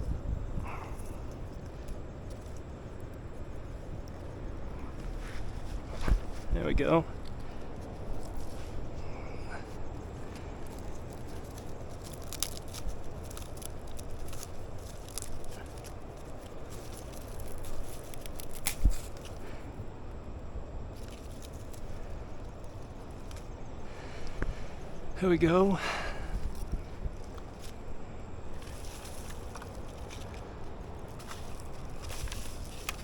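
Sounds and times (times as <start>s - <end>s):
campfire crackling and popping: 0.0s - 19.8s, 20.9s - 33.0s
steady low rumble: 0.0s - 33.0s.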